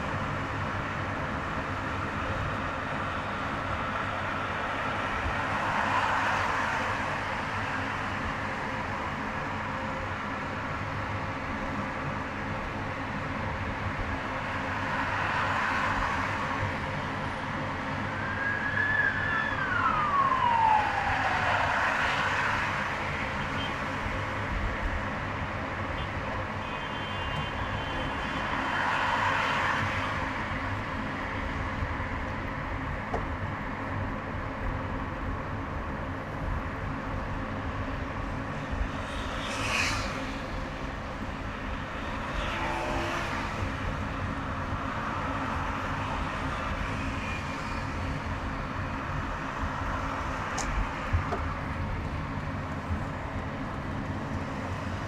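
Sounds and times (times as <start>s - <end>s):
highway traffic noise: 0.0s - 55.0s
passing vehicles: 0.0s - 55.0s.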